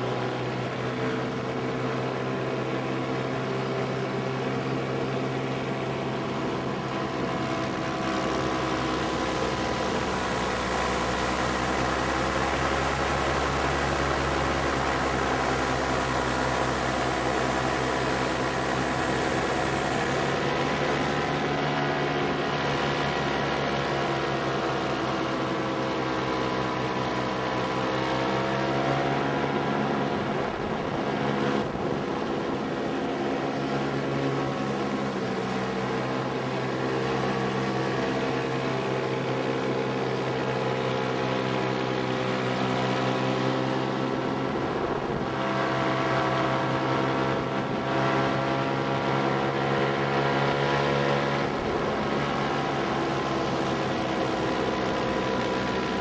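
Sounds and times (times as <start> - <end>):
paramotor engine droning: 0.0 - 56.0.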